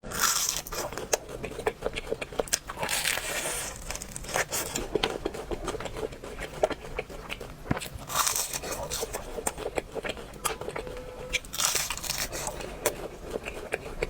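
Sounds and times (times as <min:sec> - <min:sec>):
crunching of fried food: 0:00.0 - 0:14.0.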